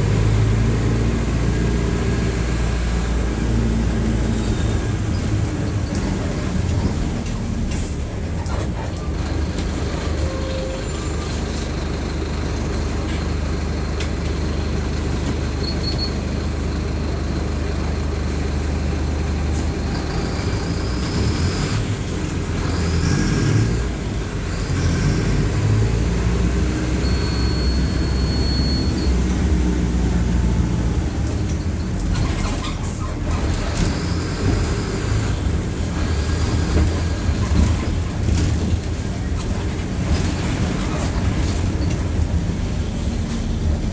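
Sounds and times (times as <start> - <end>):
bus diesel engine running: 0.0 - 43.9.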